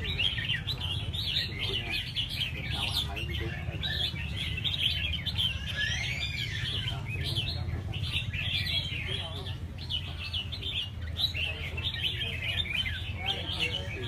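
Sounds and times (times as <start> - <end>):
birds singing chirpy phrases: 0.0 - 14.0.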